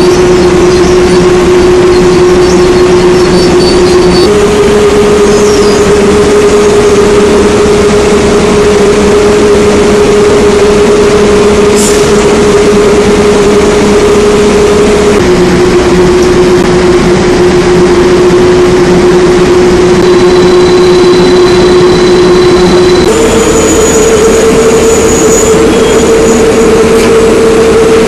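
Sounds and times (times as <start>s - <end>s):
machinery droning with whine: 0.0s - 28.0s.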